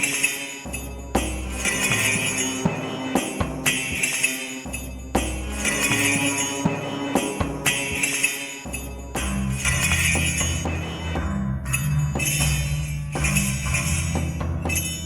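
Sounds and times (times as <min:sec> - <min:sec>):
jingling shaken percussion: 0:00.0 - 0:15.0.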